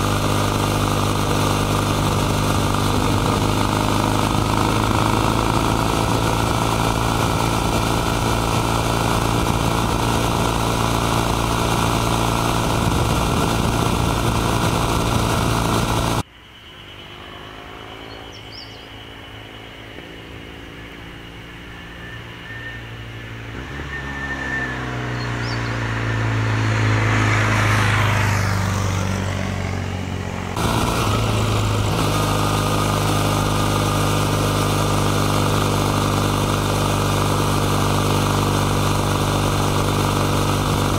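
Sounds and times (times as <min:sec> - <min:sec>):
motorcycle passing by: 0:00.0 - 0:16.2, 0:16.8 - 0:40.9
motorcycle engine while riding: 0:00.0 - 0:40.9.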